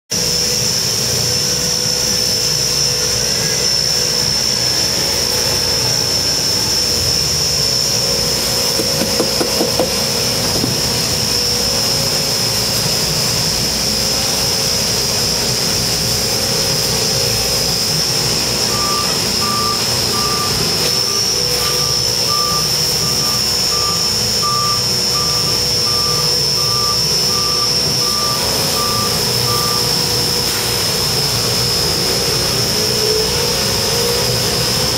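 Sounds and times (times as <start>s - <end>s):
concrete mixer truck whining: 0.2s - 34.9s
reversing beeper: 0.3s - 14.7s, 16.9s - 34.9s.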